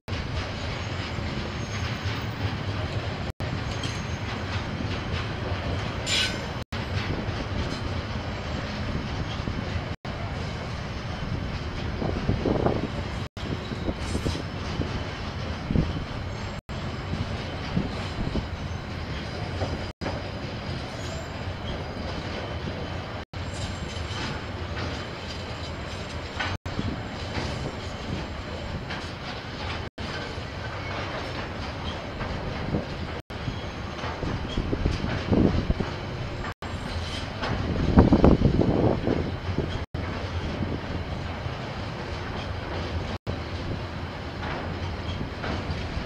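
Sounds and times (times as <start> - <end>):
train wheels rolling on rail: 0.1 - 46.0.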